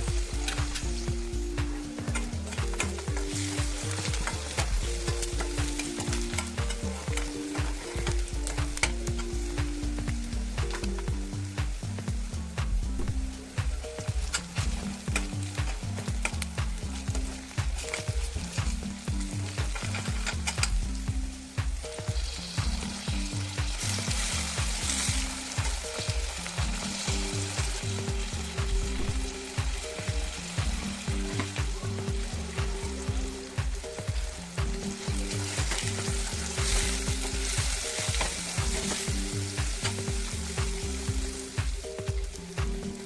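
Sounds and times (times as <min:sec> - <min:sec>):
background music with beat: 0:00.0 - 0:43.0
food sizzling in oil: 0:00.0 - 0:43.0
utensil stirring clicks: 0:00.0 - 0:43.0.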